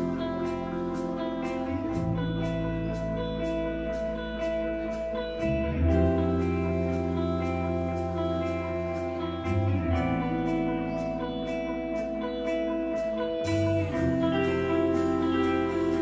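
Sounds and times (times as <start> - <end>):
bass guitar: 0.0 - 16.0
held electric guitar notes: 0.0 - 16.0.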